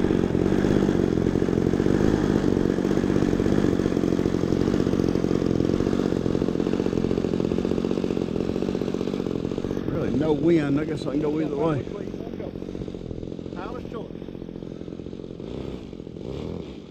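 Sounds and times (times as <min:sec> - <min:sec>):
model airplane engine running: 0:00.0 - 0:16.9.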